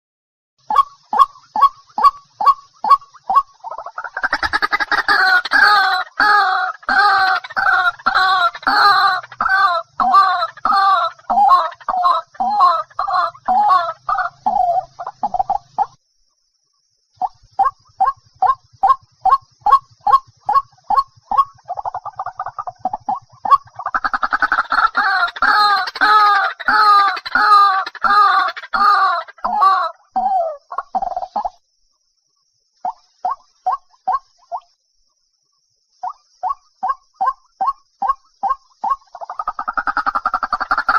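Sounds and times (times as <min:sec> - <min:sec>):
bird calling harsh croaks: 0:00.6 - 0:16.0, 0:17.2 - 0:31.6, 0:32.8 - 0:34.8, 0:36.0 - 0:40.9.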